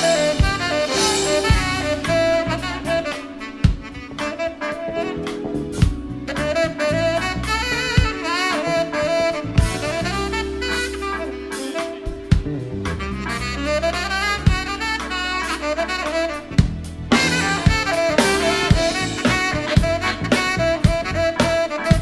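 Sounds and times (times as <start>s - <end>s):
bass: 0.0s - 22.0s
drums: 0.0s - 22.0s
held backing chords: 0.0s - 22.0s
jazz-funk big band: 0.0s - 22.0s
tenor saxophone solo: 0.0s - 22.0s.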